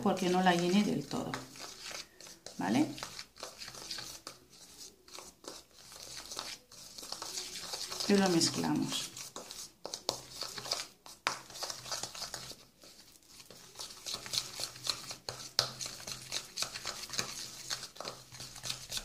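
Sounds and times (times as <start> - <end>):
spoon scraping plastic bowl: 0.0 - 19.0.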